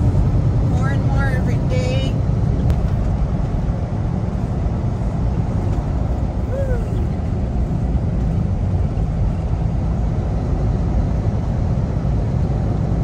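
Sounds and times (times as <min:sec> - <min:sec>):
truck engine and tyres rumbling: 0:00.0 - 0:13.0.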